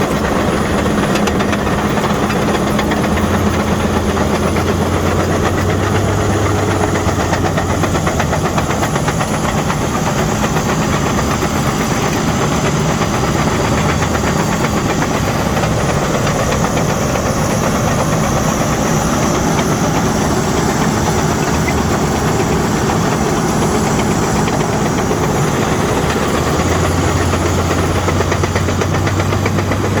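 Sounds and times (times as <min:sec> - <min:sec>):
bulldozer diesel engine running: 0:00.0 - 0:30.0
steel tracks clattering: 0:00.0 - 0:30.0.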